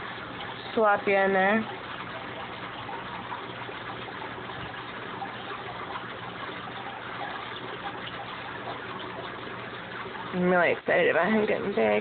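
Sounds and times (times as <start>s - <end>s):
aquarium water bubbling: 0.0s - 12.0s.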